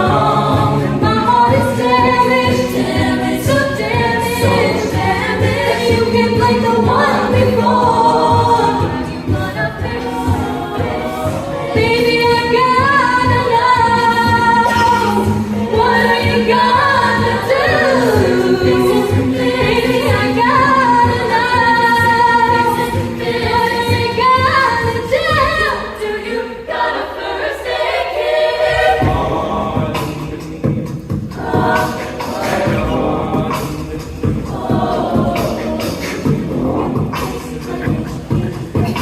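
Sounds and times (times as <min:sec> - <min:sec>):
a cappella group singing: 0:00.0 - 0:39.0
vocal percussion: 0:00.0 - 0:39.0.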